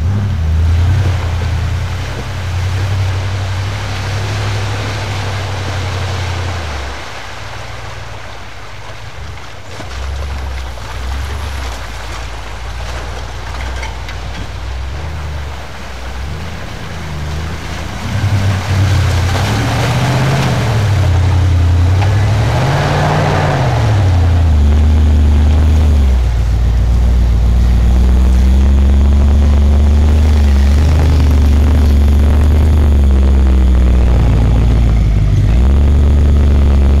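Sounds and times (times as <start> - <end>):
engine revving: 0.0 - 8.2, 9.2 - 37.0
tyres spinning in snow: 0.0 - 37.0.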